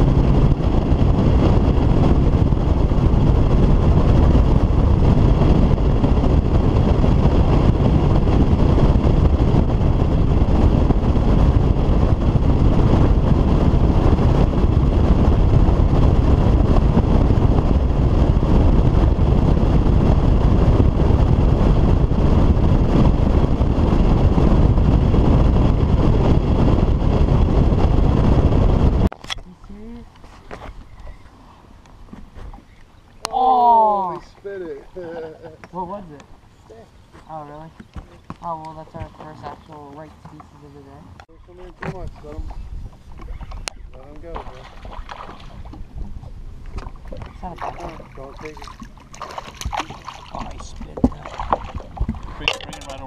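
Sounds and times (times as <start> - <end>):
hull on water: 0.0 - 53.0
outboard engine: 0.0 - 53.0
wind buffeting microphone: 0.0 - 53.0.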